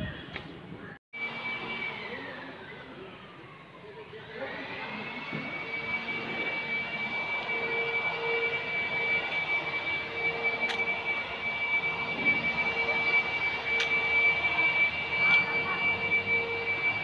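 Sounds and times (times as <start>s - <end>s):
high-pitched mechanical whine: 1.2s - 17.0s.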